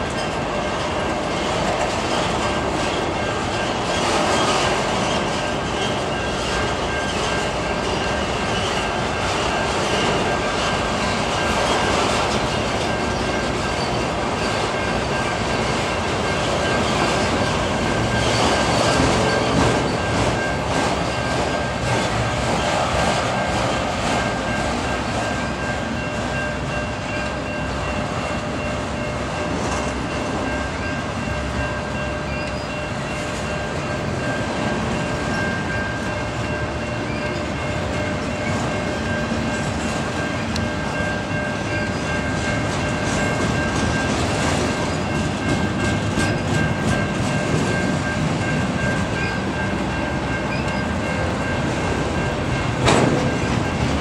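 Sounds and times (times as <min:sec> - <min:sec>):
freight train cars rumbling: 0:00.0 - 0:54.0
high ringing tone: 0:05.1 - 0:22.4, 0:24.1 - 0:54.0.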